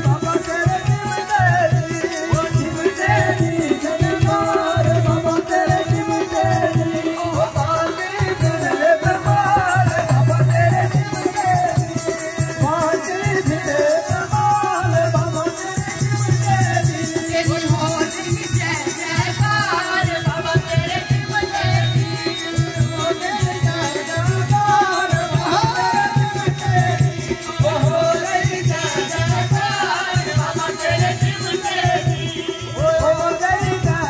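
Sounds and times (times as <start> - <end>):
harmonium: 0.0 - 34.0.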